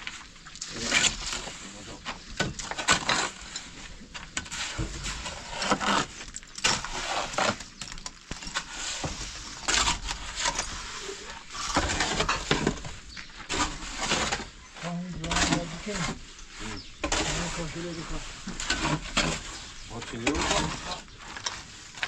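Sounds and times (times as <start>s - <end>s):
construction scraping and knocking: 0.0s - 22.0s.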